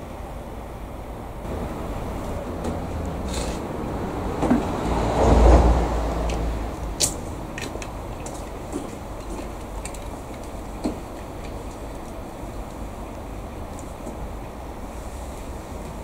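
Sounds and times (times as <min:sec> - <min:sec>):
electric train rumbling: 0:00.0 - 0:16.0
wheels clicking on rails: 0:01.5 - 0:16.0.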